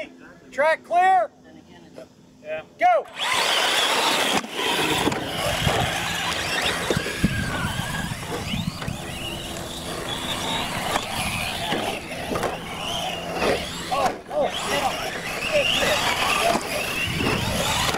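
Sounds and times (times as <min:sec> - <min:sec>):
radio-controlled truck motors whining: 0:03.1 - 0:17.9
tyres spinning in dirt: 0:03.2 - 0:17.9.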